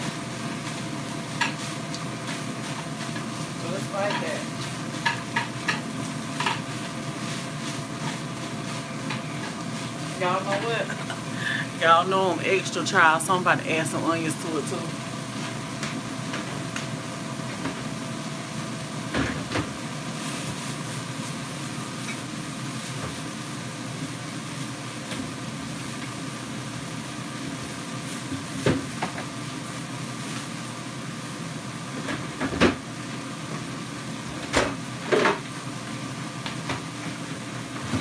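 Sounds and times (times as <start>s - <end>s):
sausage sizzling in a skillet: 0.0s - 37.9s
fan-like hum: 0.0s - 38.0s.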